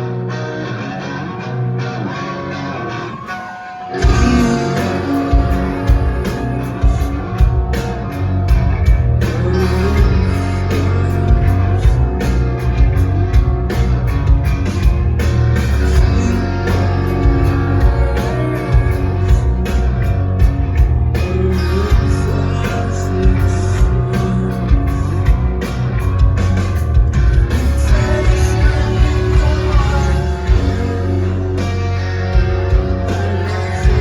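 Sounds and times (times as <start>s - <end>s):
live rock band playing loudly: 0.0s - 34.0s.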